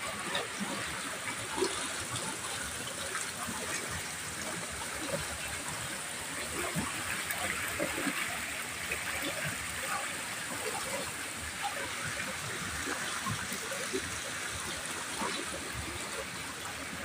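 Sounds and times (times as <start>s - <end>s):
water flowing with gurgles: 0.0s - 17.0s.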